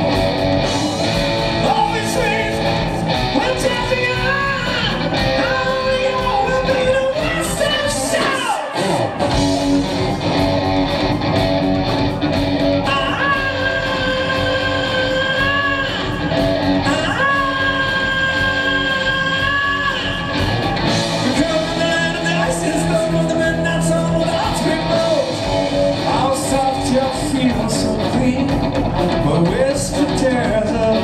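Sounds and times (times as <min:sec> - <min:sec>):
rock band playing: 0:00.0 - 0:31.0
man singing: 0:01.6 - 0:09.2, 0:12.8 - 0:20.4, 0:21.2 - 0:31.0.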